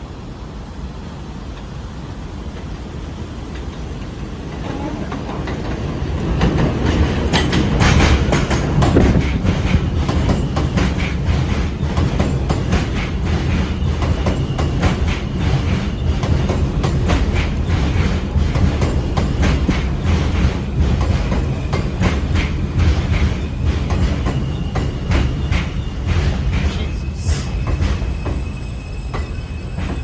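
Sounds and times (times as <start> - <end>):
subway train rumbling: 0.0 - 30.0
wheel clicks over rail joints: 3.5 - 28.4.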